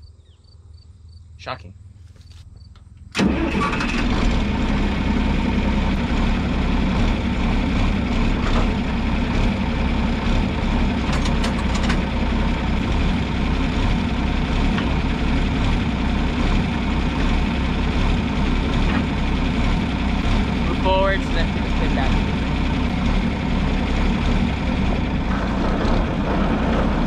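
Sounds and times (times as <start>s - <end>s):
tractor engine idling: 1.9s - 27.0s.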